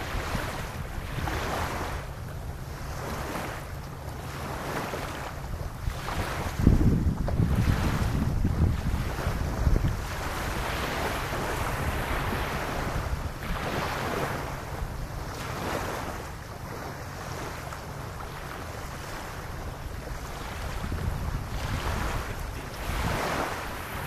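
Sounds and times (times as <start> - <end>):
small waves lapping on sand: 0.0 - 24.0
wind rumbling on microphone: 0.0 - 24.0.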